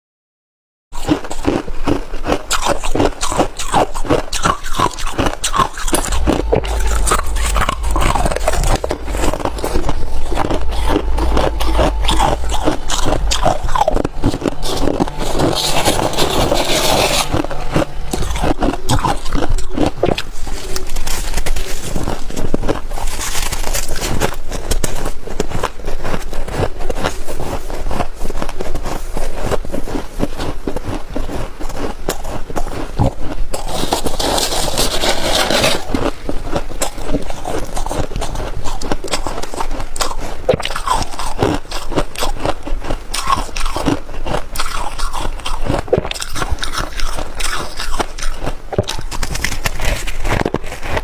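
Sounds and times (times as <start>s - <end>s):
chewing crunchy ice: 1.0s - 51.0s.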